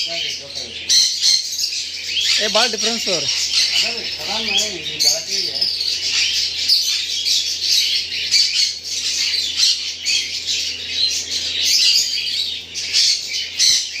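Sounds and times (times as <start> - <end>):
parrots squawking and chattering: 0.0 - 14.0.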